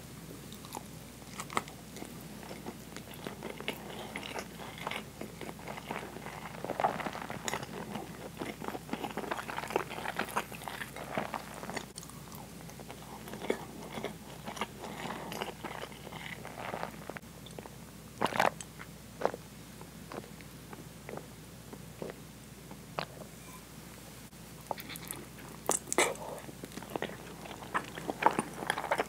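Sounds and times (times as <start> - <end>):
close chewing and mouth sounds: 0.5 - 19.4, 20.1 - 23.1, 24.6 - 29.0.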